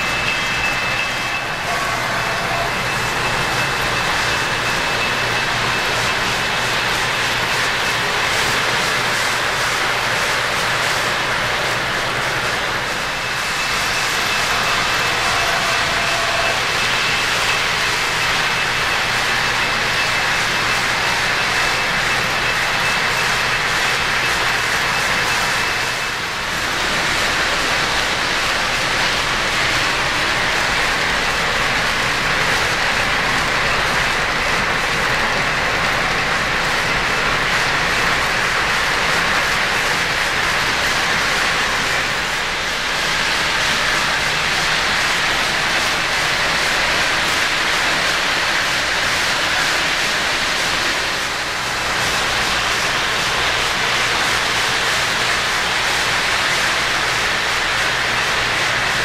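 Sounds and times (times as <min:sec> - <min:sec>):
model train rumbling on track: 0:00.0 - 0:59.0.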